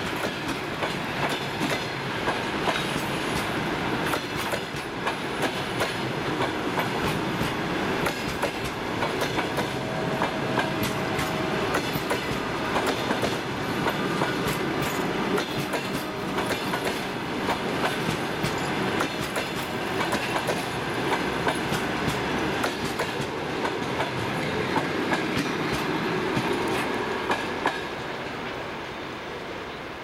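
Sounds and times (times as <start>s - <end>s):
train wheels clattering over rail joints: 0.0s - 28.0s
train rumble: 0.0s - 30.0s.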